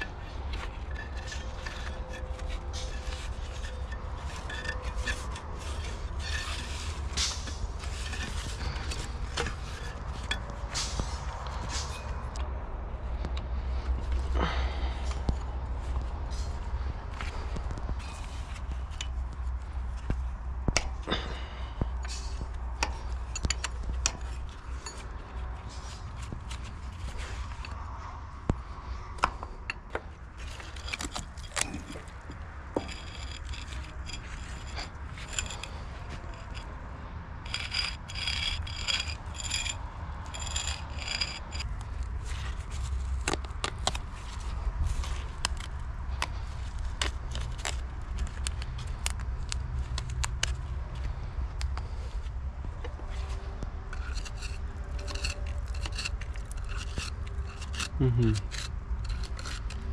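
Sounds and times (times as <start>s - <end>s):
metal tools clinking and scraping: 0.0s - 12.5s, 20.8s - 27.8s, 29.6s - 36.8s, 37.4s - 59.9s.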